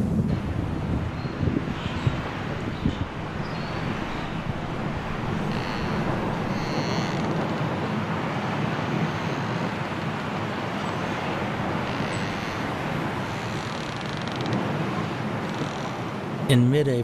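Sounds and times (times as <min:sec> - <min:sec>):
strong wind blowing: 0:00.0 - 0:16.5.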